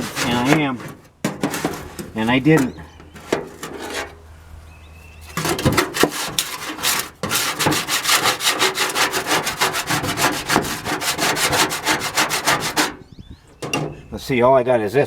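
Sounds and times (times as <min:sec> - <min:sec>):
scraping rust off metal pan: 0:00.0 - 0:04.3, 0:05.2 - 0:14.1.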